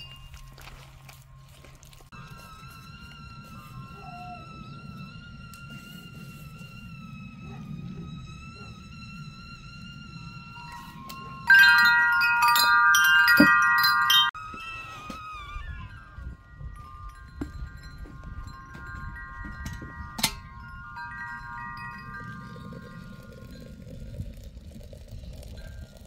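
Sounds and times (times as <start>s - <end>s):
kettle whistling: 2.0s - 26.0s.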